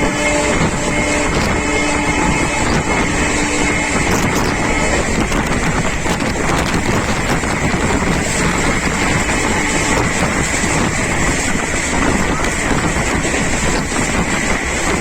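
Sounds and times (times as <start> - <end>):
train wind and rail noise: 0.0 - 15.0.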